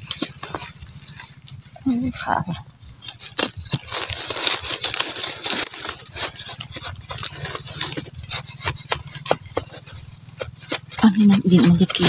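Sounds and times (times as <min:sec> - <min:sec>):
leaf litter and soil rustling: 0:00.0 - 0:12.0.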